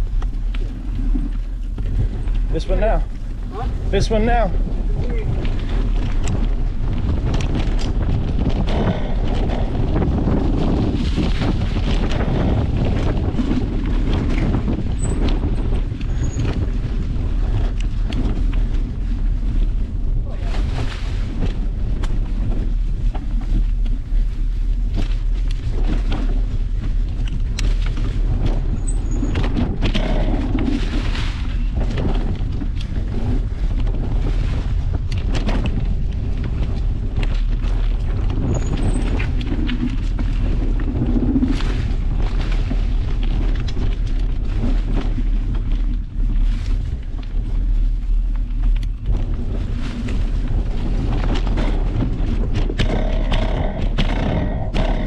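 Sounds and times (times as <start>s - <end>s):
bike rattles and clicks: 0.0s - 55.0s
wind rumble on microphone: 0.0s - 55.0s.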